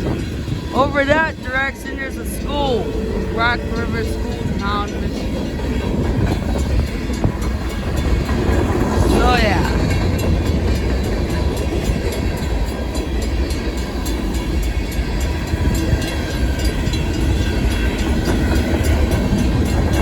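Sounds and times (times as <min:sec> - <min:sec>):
freight train rolling past: 0:00.0 - 0:20.0
wind buffeting microphone: 0:00.0 - 0:20.0.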